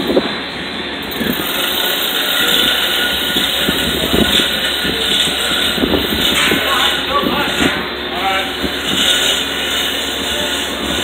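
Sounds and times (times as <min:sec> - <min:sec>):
industrial machinery drone: 0:00.0 - 0:11.0.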